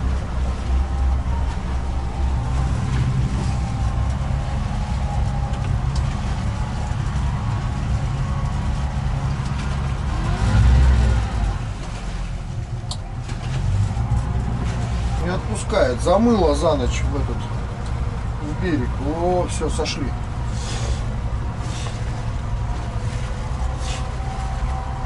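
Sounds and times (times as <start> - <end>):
motorboat engine droning: 0.0 - 25.0.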